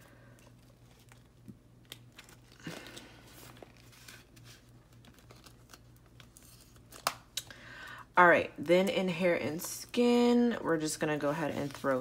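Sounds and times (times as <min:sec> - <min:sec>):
banknotes and plastic rustling: 0:00.2 - 0:12.0.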